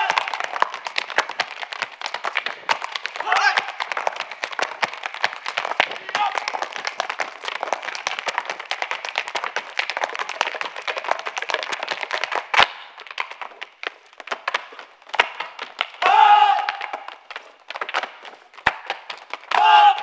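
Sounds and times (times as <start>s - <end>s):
hard shoes tapping on stage: 0.0s - 20.0s
loud foot stamp: 0.0s - 20.0s.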